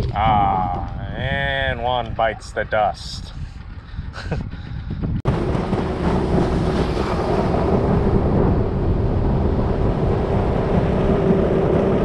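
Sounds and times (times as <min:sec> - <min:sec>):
motorboat motor hum: 0:00.0 - 0:12.0
wind buffeting microphone: 0:00.0 - 0:12.0.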